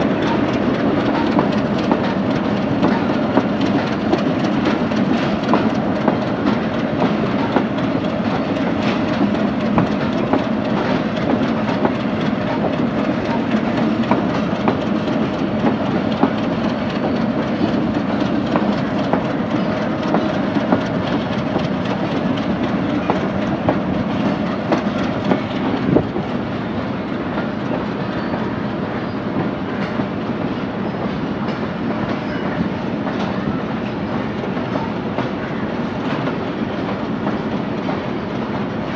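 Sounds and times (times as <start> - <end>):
passenger train rumbling: 0.0 - 38.9
train wheels clicking over rail joints: 0.0 - 38.9.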